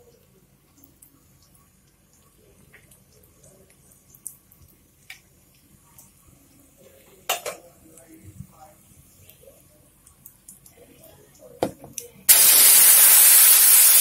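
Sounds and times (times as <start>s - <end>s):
hot oil crackling: 0.0s - 11.4s, 12.0s - 14.0s.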